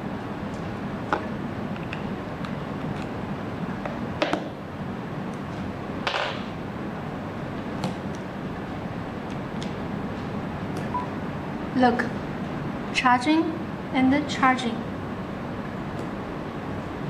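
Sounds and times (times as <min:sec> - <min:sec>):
room hum and hiss: 0:00.0 - 0:17.0.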